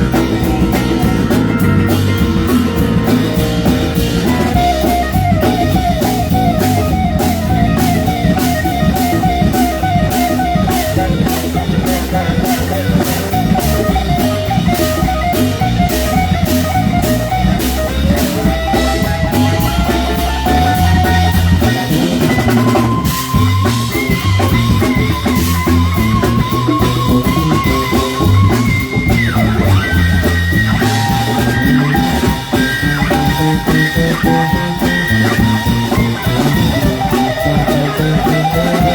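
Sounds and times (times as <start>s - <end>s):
drum kit beat: 0.0s - 38.9s
lead guitar held notes: 0.0s - 38.9s
live rock band playing: 0.0s - 38.9s.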